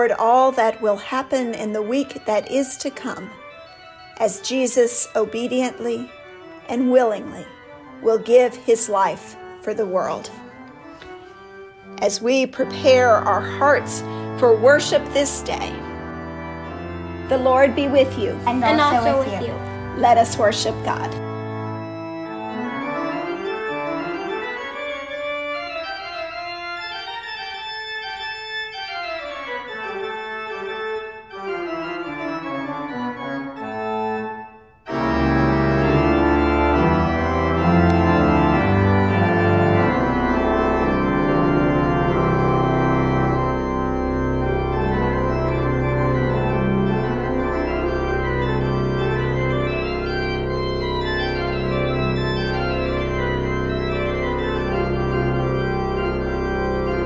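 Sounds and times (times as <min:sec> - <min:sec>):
organ music: 0:00.0 - 0:57.0.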